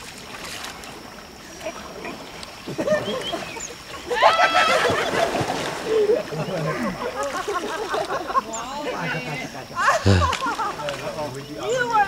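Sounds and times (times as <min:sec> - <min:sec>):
river water sloshing: 0:00.0 - 0:12.0.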